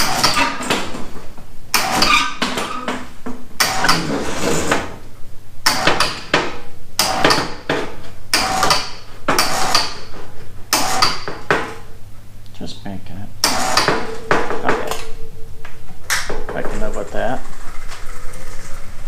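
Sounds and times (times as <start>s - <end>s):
low steady hum: 2.5s - 19.0s.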